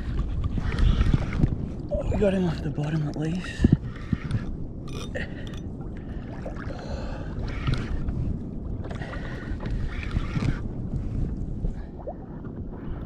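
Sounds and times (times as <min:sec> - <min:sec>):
water sloshing against hull: 0:00.0 - 0:13.0
wind rumbling on microphone: 0:00.0 - 0:13.0.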